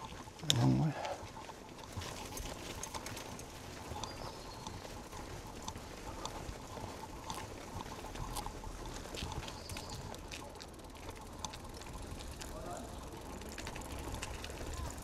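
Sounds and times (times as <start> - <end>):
bicycle rattling over cobblestones: 0.0 - 15.0.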